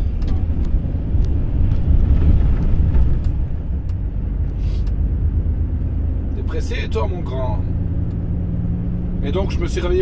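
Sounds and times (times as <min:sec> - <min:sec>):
road noise: 0:00.0 - 0:10.0
truck engine rumble: 0:00.0 - 0:10.0.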